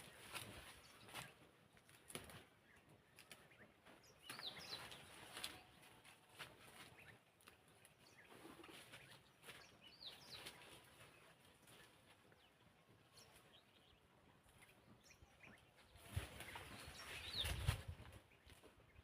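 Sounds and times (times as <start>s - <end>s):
bird chirps: 2.1s - 6.2s, 6.8s - 19.0s.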